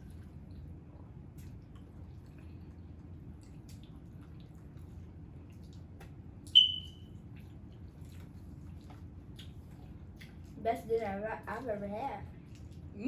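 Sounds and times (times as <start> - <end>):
quiet eating: 0.0 - 6.5, 7.1 - 13.0.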